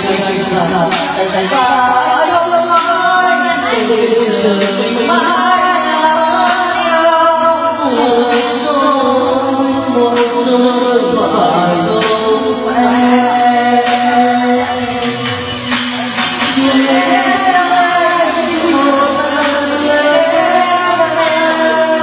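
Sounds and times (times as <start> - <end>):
man singing into microphone: 0.0 - 15.6, 16.4 - 22.0
backing track music: 0.0 - 22.0.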